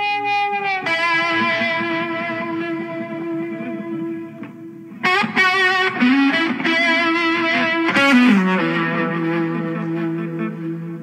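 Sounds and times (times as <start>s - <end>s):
electric guitar with delay: 0.0s - 11.0s.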